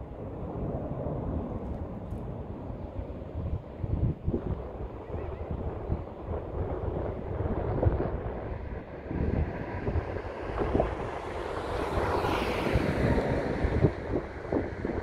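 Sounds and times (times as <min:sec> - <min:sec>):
distant jet noise: 0:00.0 - 0:15.0
wind buffeting microphone: 0:00.0 - 0:15.0.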